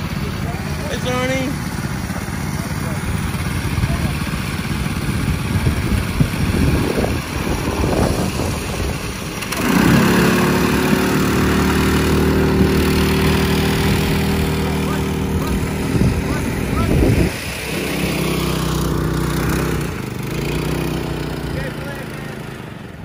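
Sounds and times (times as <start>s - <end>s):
small engine starting and running: 0.0s - 23.0s.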